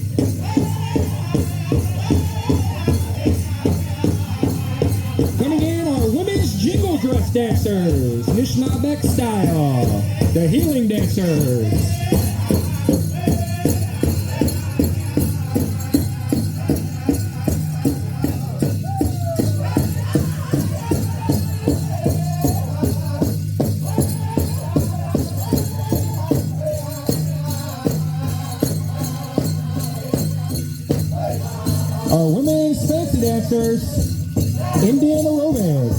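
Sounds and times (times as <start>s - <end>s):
big drum steady beat: 0.0s - 35.9s
jingling regalia: 0.0s - 35.9s
group singing: 0.2s - 35.0s.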